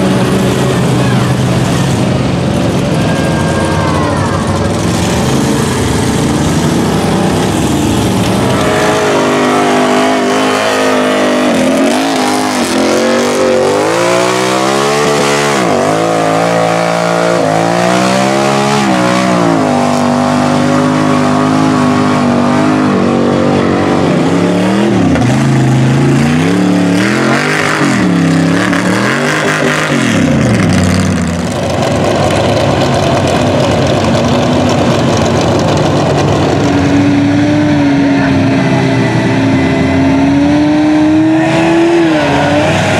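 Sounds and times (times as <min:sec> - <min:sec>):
truck engines revving: 0:00.0 - 0:42.9
tires digging through mud: 0:04.4 - 0:42.9.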